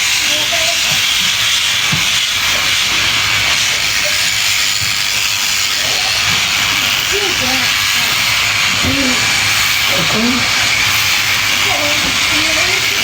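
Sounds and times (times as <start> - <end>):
electric shears hissing: 0.0 - 13.0.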